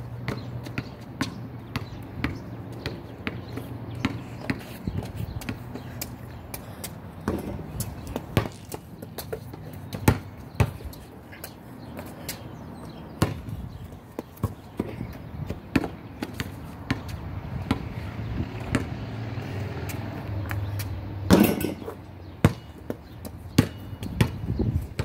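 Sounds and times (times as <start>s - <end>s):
basketball bouncing: 0.2s - 11.0s, 13.1s - 19.2s, 21.3s - 25.0s.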